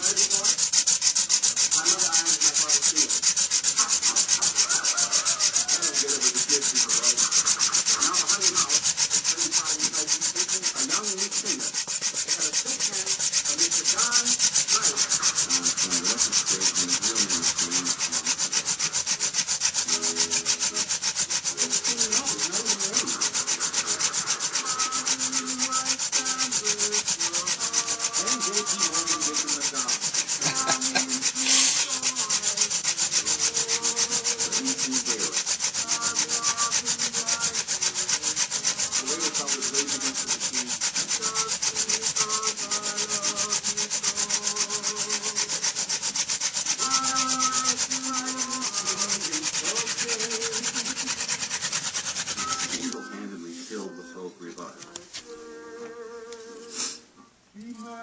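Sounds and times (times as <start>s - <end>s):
sharp wood scrape: 0.0s - 58.0s
wooden spindle rubbing and squeaking: 0.0s - 58.0s.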